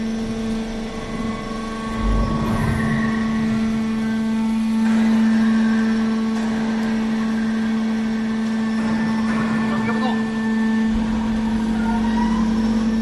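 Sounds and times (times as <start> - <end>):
baler motor humming: 0.0 - 13.0.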